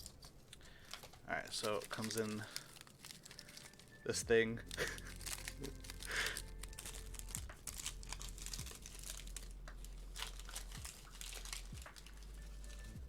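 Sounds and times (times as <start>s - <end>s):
foil pouch crinkling: 0.0s - 13.0s.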